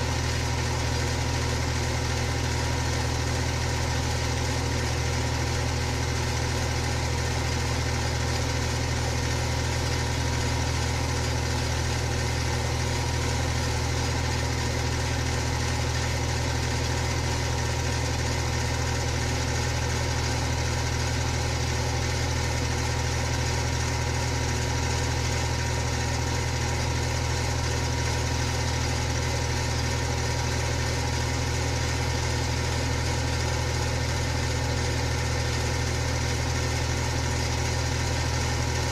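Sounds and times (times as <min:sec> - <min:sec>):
electric fan running: 0:00.0 - 0:38.9.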